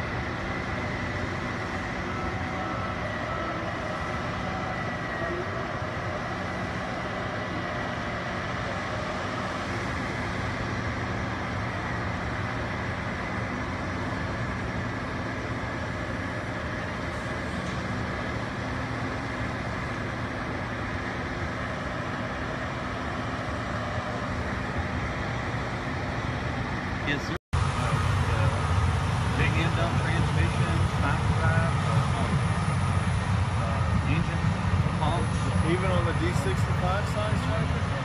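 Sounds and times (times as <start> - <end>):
diesel engine drone: 0.0 - 38.0
faint high whine: 0.0 - 38.0.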